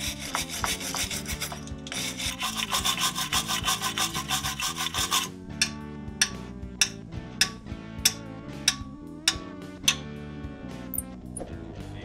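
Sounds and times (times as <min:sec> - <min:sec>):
wire brush scrubbing metal: 0:00.0 - 0:10.0.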